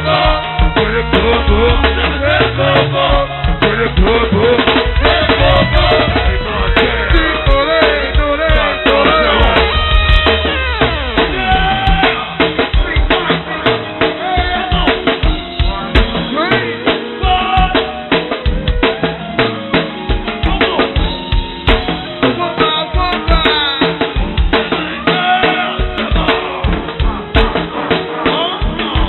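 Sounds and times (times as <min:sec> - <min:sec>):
drum kit groove with rimshots: 0:00.0 - 0:29.0
live go-go band playing: 0:00.0 - 0:29.0.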